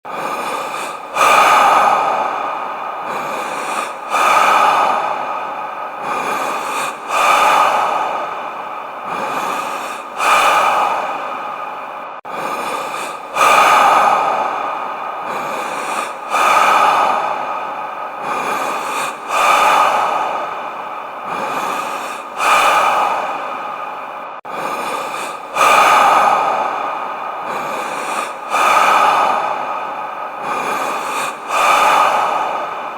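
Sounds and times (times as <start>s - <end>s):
deep breathing with reverb: 0.0s - 32.9s.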